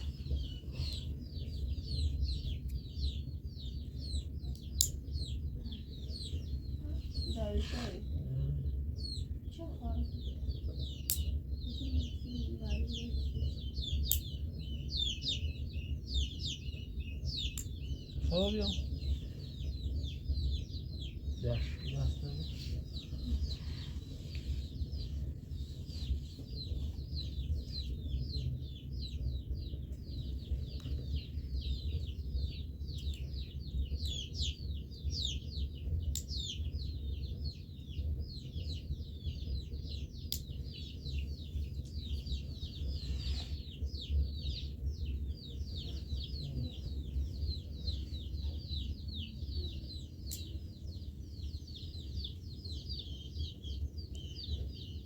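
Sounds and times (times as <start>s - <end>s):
dense chorus of birds chirping: 0.0s - 55.0s
steady low rumble: 0.0s - 55.0s.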